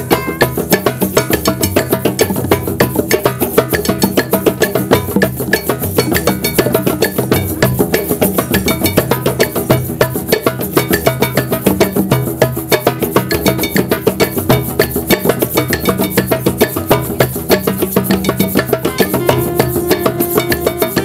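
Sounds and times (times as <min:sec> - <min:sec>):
drum circle playing: 0:00.0 - 0:21.0.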